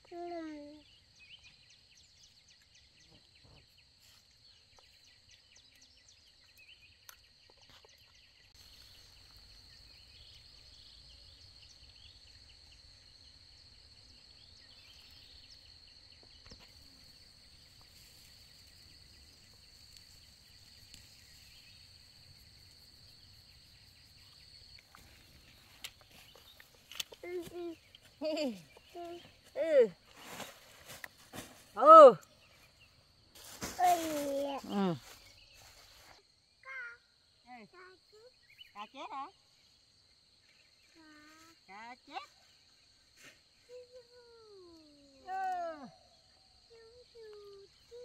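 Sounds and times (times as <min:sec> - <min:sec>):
high-pitched insect trill: 0:04.0 - 0:48.0.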